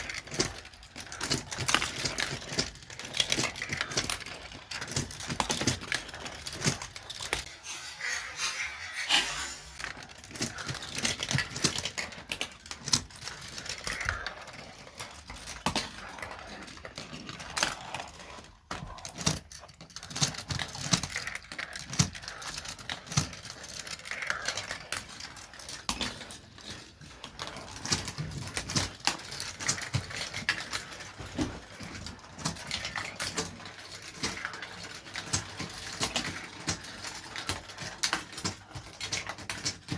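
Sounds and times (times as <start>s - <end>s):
marbles clattering in plastic track: 0.0s - 39.9s.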